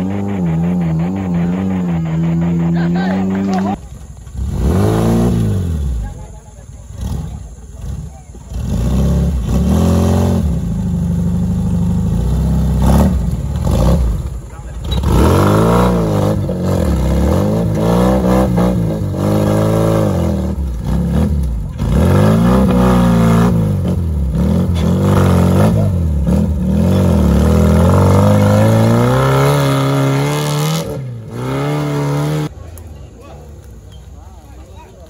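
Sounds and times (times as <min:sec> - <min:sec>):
off-road engine revving: 0:00.0 - 0:35.0.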